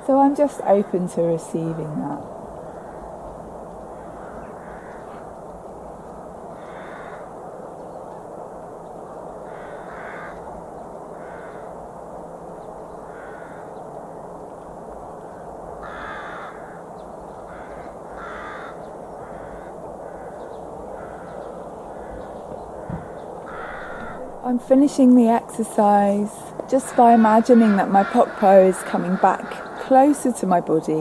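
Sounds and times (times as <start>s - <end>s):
birds calling: 0.0s - 11.8s, 12.4s - 31.0s
steady background hiss: 0.0s - 31.0s.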